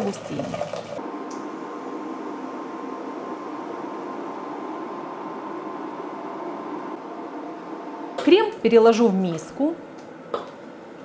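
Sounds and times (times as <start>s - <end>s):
fan hum: 0.0s - 11.0s.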